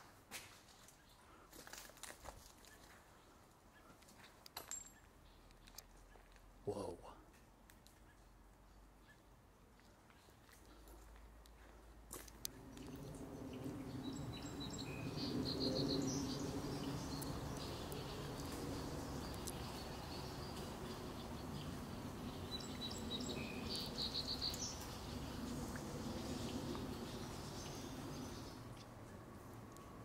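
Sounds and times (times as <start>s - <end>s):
songbirds chirping: 0.7s - 30.0s.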